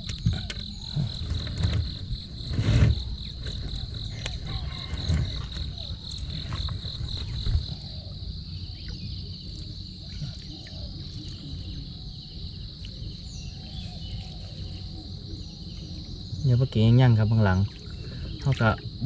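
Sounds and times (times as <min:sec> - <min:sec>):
low rumble: 0:00.0 - 0:17.2
insects chirping: 0:00.0 - 0:19.0.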